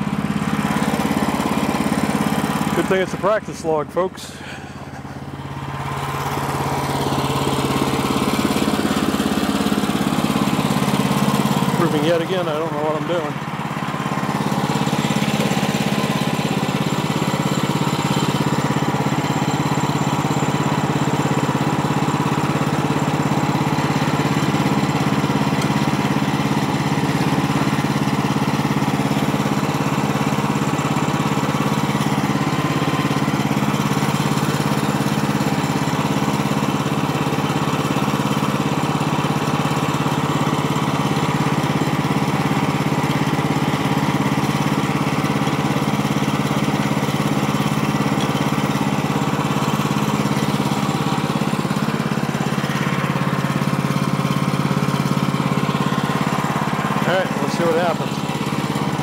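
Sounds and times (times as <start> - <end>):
gasoline engine running steadily: 0.0 - 59.0.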